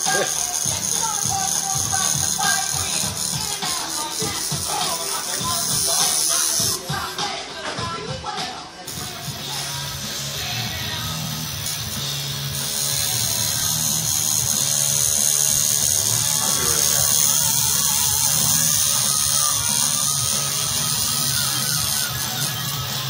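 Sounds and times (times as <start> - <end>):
tattoo machine buzzing: 0.0 - 7.2, 8.9 - 23.0.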